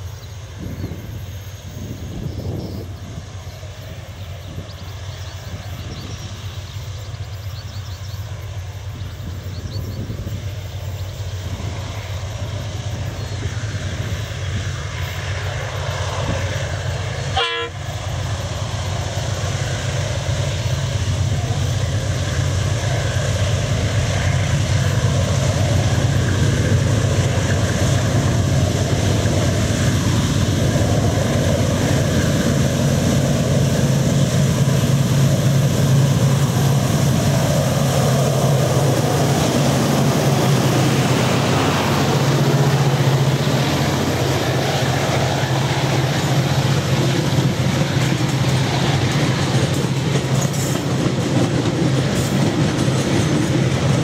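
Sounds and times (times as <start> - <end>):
diesel locomotives droning: 0.0 - 54.0.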